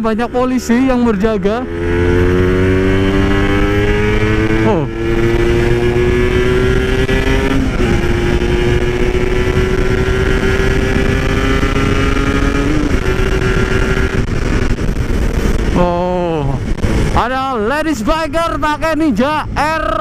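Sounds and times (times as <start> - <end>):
two-stroke motorcycle engine: 0.0 - 17.1
wind and road noise: 0.0 - 20.0.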